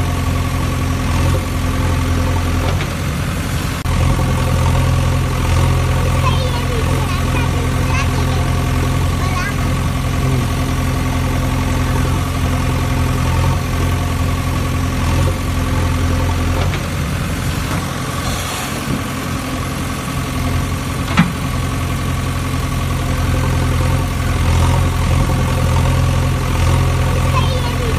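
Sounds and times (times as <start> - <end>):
low engine-like idling drone: 0.0 - 27.9.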